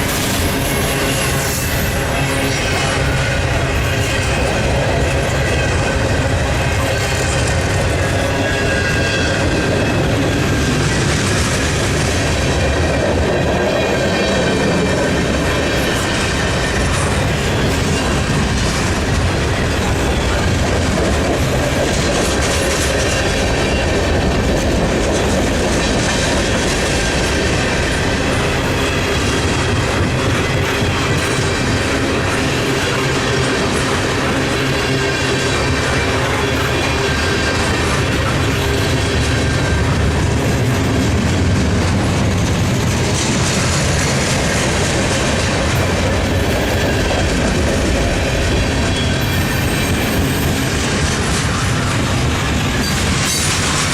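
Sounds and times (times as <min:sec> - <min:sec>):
railroad cars rumbling past: 0:00.0 - 0:53.9.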